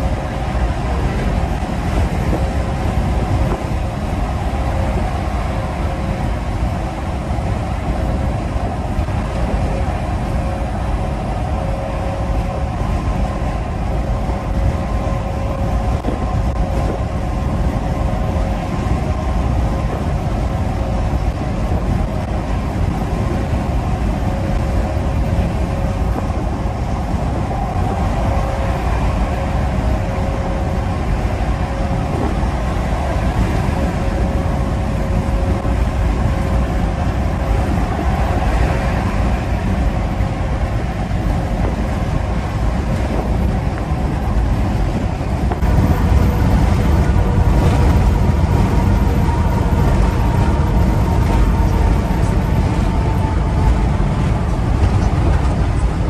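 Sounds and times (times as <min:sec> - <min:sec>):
faint steady whine: 0:00.0 - 0:56.0
road noise: 0:00.0 - 0:56.0
truck engine drone: 0:00.0 - 0:56.0.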